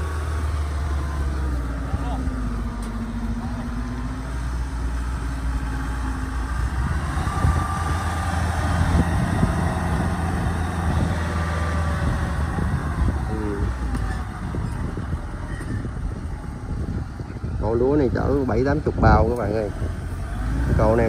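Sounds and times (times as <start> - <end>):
harvester engines droning: 0.0 - 21.0.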